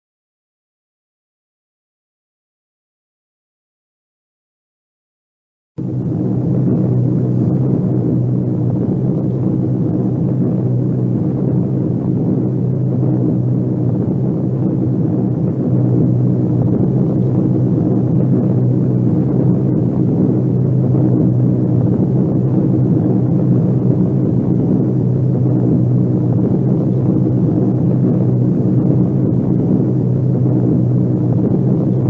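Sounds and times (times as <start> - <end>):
propeller bombers droning: 5.8 - 32.0.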